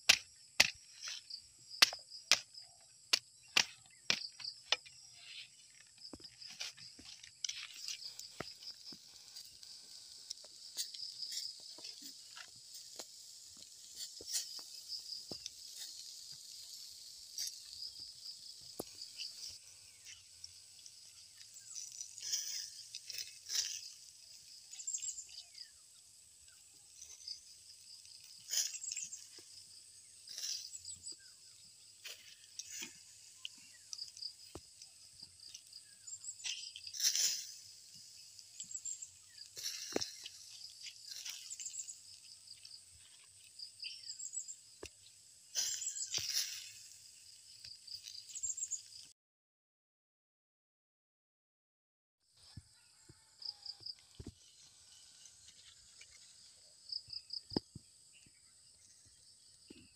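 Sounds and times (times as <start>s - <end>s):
grilling crackles and pops: 0.0s - 49.1s, 52.9s - 59.9s
insect chorus: 0.0s - 49.1s, 52.4s - 59.9s.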